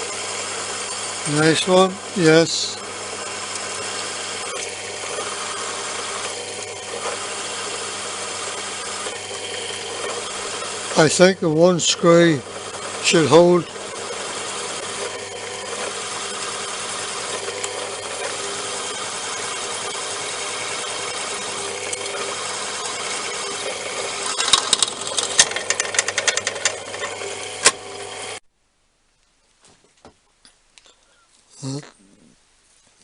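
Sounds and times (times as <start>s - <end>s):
electric drill running: 0.0s - 28.4s.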